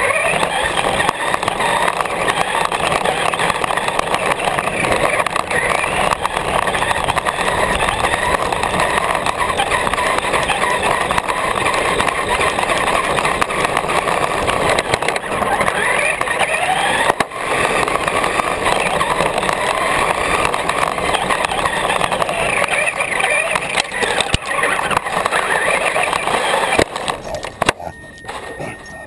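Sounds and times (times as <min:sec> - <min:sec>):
small tyres rolling on asphalt: 0:00.0 - 0:29.0
toy car motor whining: 0:00.0 - 0:29.0.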